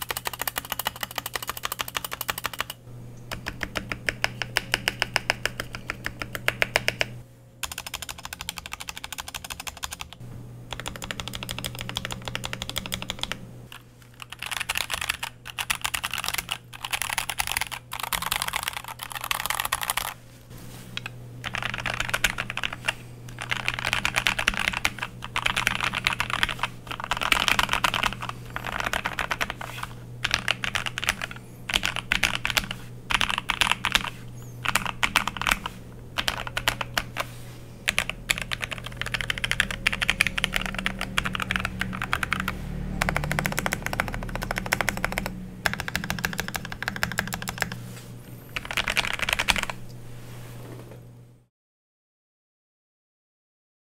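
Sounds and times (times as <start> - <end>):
mechanical keyboard clacking: 0.0 - 13.4, 14.1 - 20.2, 21.0 - 37.3, 37.9 - 47.8, 48.6 - 49.8.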